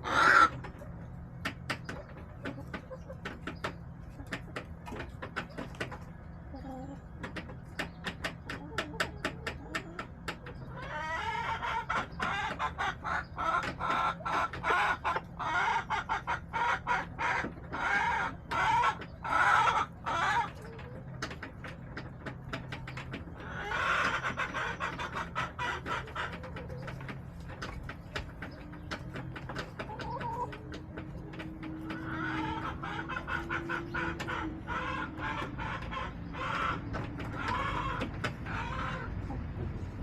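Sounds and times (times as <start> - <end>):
hens clucking: 0.0 - 40.0.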